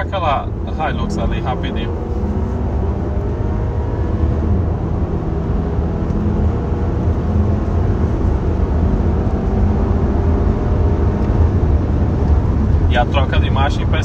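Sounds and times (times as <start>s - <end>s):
car engine accelerating: 0.0s - 14.0s
low road and tyre rumble: 0.0s - 14.0s.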